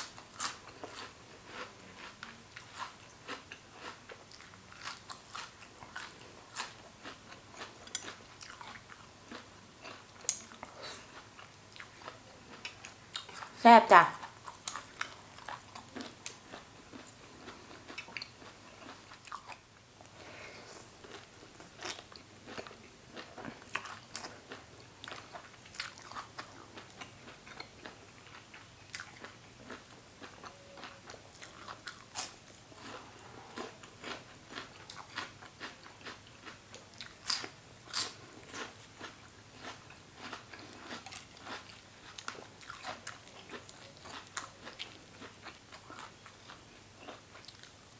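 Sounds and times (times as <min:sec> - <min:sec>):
chewing with wet crunches: 0:00.0 - 0:13.6, 0:14.2 - 0:19.6, 0:21.0 - 0:47.9.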